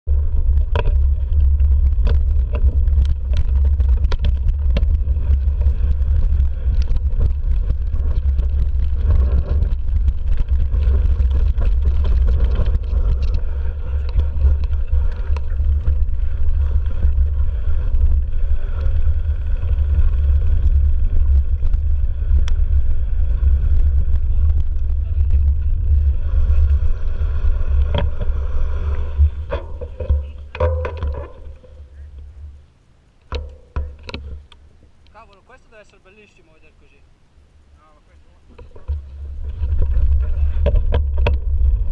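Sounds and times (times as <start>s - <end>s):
low rumble of wind and vibration: 0.0s - 41.9s
bike knocks and rattles: 0.1s - 32.6s, 33.2s - 34.5s, 38.6s - 41.9s.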